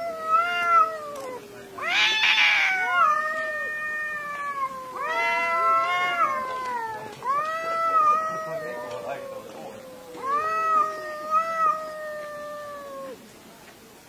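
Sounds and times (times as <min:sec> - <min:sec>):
cat hissing: 0:00.0 - 0:13.2
cats yowling: 0:00.0 - 0:13.2.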